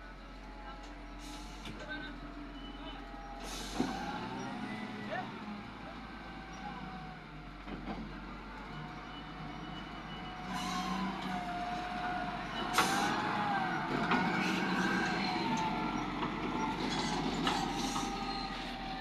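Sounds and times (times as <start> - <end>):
heavy machine engines under load: 0.0 - 19.0.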